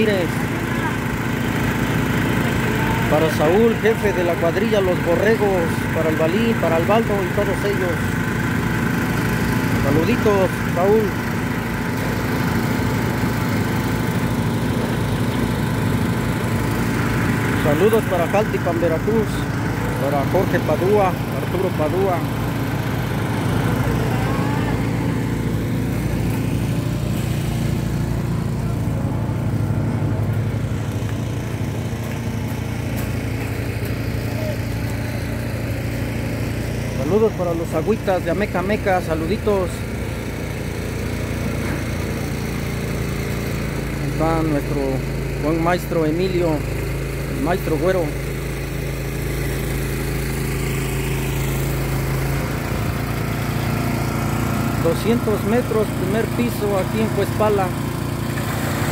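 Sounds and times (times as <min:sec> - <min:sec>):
small engine droning: 0:00.0 - 0:58.9.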